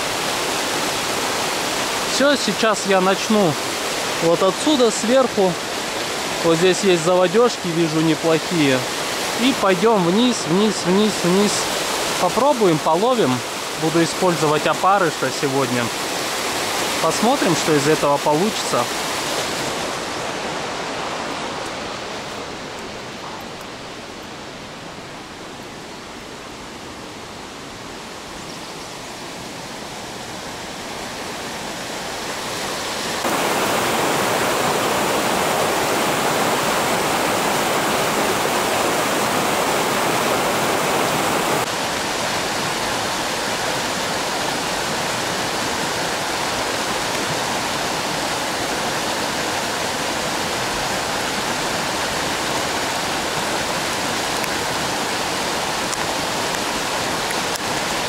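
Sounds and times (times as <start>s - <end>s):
river rushing over stones: 0.0s - 58.0s.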